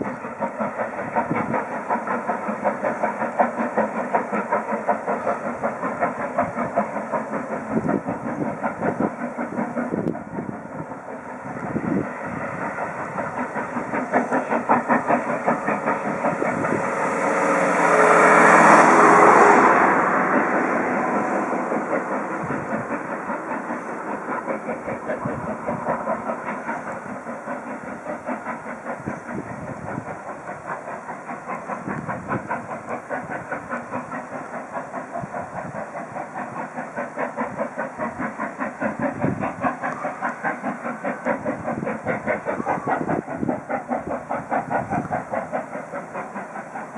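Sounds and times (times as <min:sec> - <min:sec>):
steam locomotive exhaust beats: 0:00.0 - 0:46.9.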